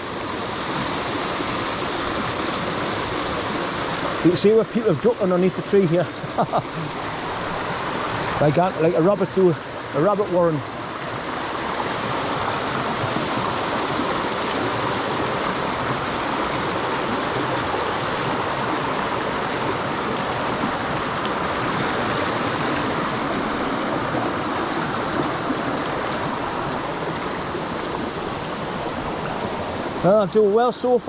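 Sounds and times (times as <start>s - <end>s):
stream and waterfall rushing: 0.0s - 31.0s.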